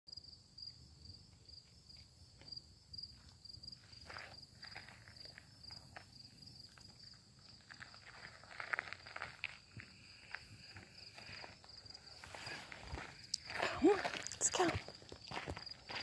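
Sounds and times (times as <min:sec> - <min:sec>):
insects chirping: 0:00.1 - 0:16.0
footsteps on gravel: 0:03.2 - 0:16.0.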